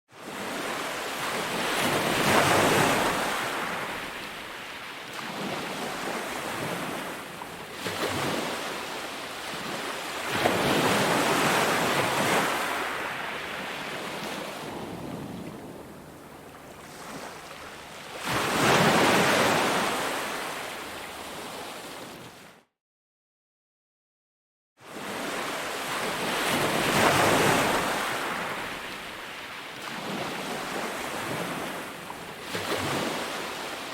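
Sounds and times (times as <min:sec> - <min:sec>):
ocean waves breaking on shore: 0:00.1 - 0:22.6, 0:24.8 - 0:33.9.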